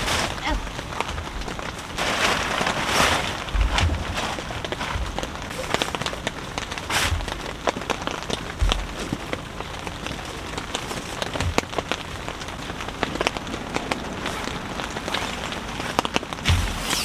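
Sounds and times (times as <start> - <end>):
heavy rain on tent fabric: 0.0 - 17.0.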